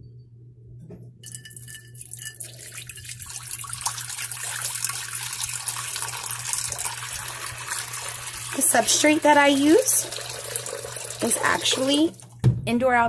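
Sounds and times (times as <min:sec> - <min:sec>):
water pouring into a bowl: 0:01.3 - 0:12.2.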